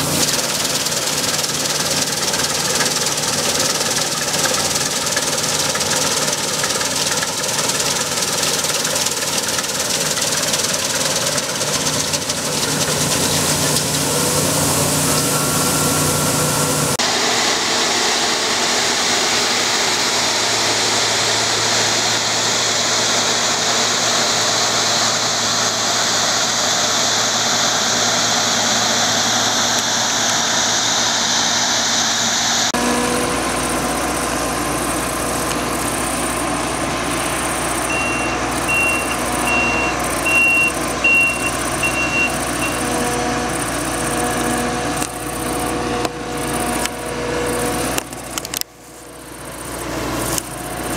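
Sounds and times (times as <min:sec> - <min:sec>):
combine harvester engine running: 0:00.0 - 0:50.9.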